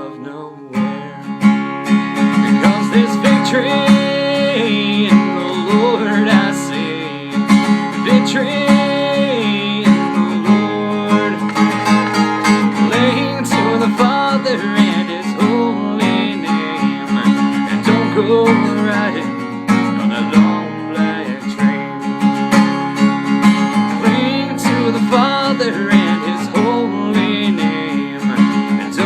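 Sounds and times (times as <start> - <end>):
person singing: 0.0 - 1.5, 2.2 - 22.2, 23.6 - 29.0
acoustic guitar strumming: 0.0 - 29.0.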